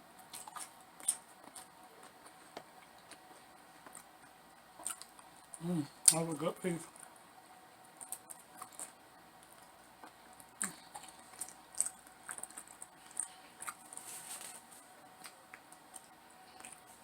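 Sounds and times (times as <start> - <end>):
person chewing crunchy food: 0.2 - 6.2, 7.9 - 17.0.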